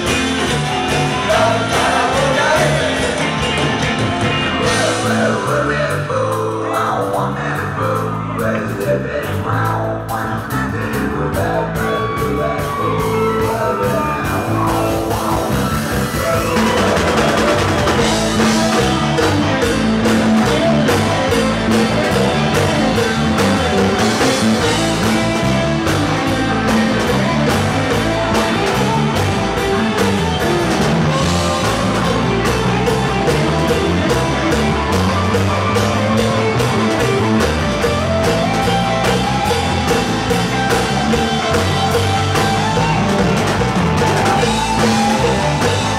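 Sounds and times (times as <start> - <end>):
bass guitar: 0.0 - 45.9
drums and cymbals: 0.0 - 45.9
electric guitars: 0.0 - 45.9.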